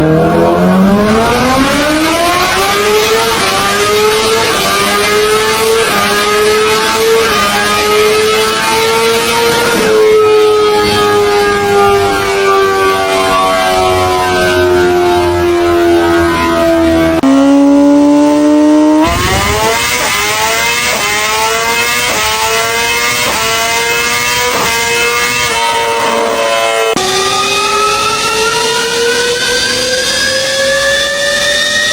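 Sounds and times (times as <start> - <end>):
motorcycle engine accelerating hard: 0.0 - 31.9.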